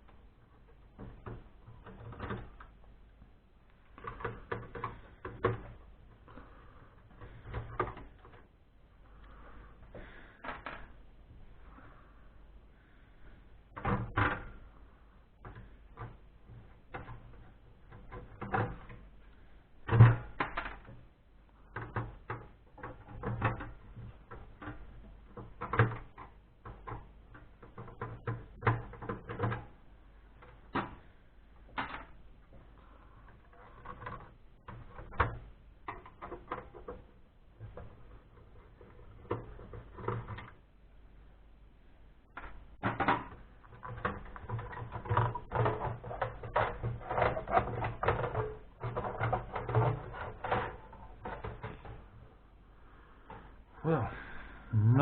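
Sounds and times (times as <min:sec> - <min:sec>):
metal and plastic parts rattling: 0:00.0 - 0:02.9, 0:03.8 - 0:11.0, 0:15.4 - 0:21.0, 0:21.7 - 0:40.6, 0:42.3 - 0:52.3.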